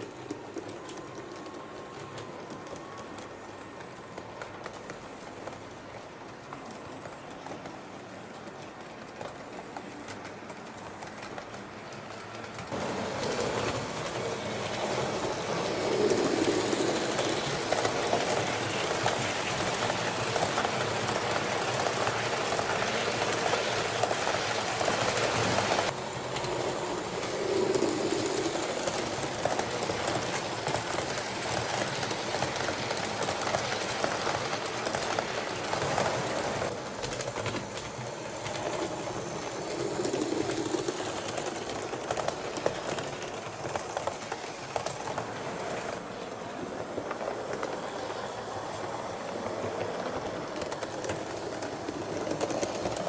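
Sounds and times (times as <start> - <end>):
model train running on track: 0.0 - 53.0.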